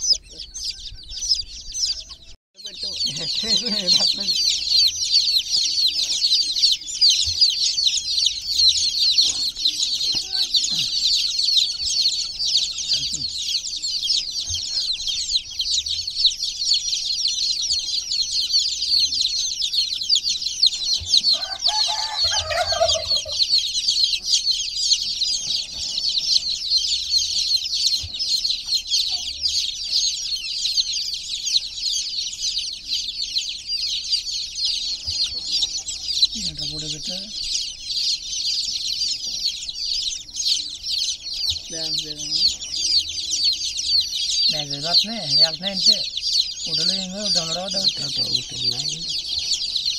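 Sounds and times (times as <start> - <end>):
baby chicks chirping: 0.0 - 49.9.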